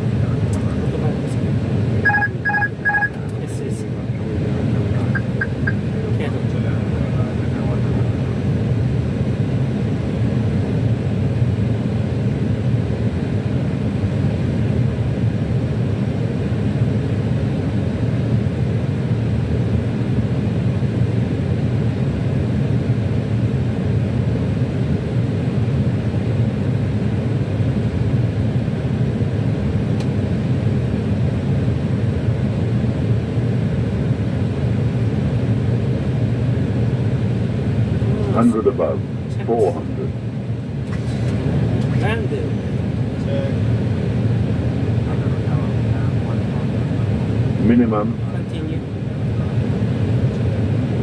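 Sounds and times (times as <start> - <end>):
airflow and engine rumble: 0.0 - 51.0.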